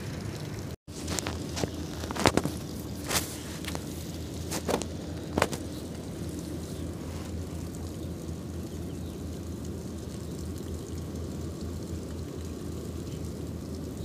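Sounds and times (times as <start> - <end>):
outboard motor humming: 0.0 - 14.0.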